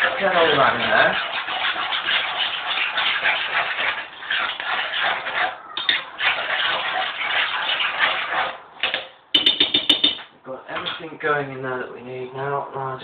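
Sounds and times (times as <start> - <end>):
spoon scraping frying pan: 0.0 - 11.1.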